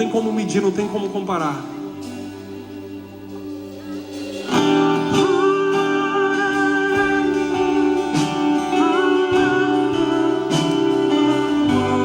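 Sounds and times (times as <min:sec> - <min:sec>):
lead guitar with sliding notes: 0:00.0 - 0:12.0
worship band music: 0:00.0 - 0:12.0.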